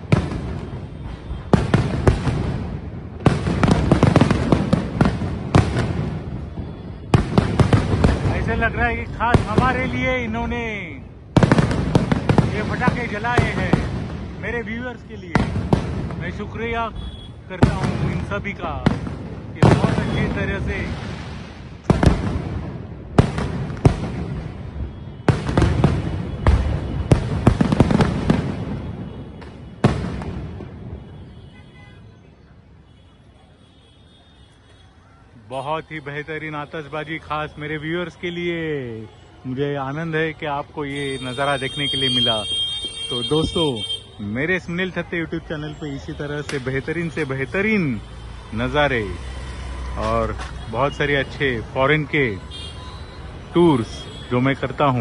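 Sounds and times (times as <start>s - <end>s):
fireworks bangs and crackling: 0.0s - 31.5s, 39.8s - 52.5s.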